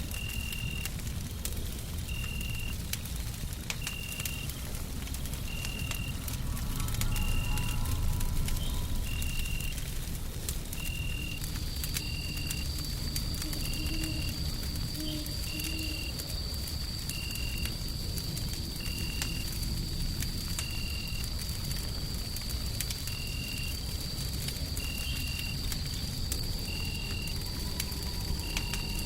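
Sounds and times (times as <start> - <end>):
low rumble of white noise: 0.0 - 29.0
wood fire crackling: 0.0 - 29.0.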